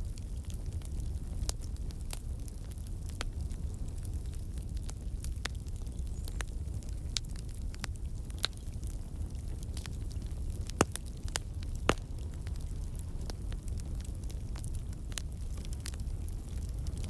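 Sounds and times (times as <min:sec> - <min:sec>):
campfire flames rumbling: 0:00.0 - 0:17.0
wood crackling and popping: 0:00.0 - 0:17.0.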